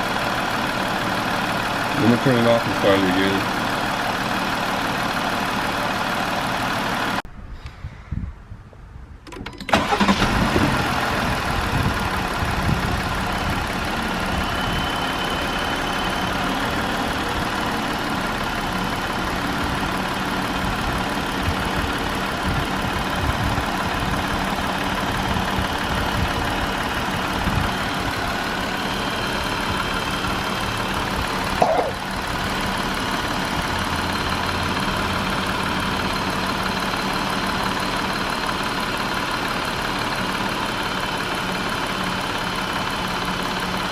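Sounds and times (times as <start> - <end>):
car engine starting and idling: 0.0 - 7.2, 9.2 - 43.9.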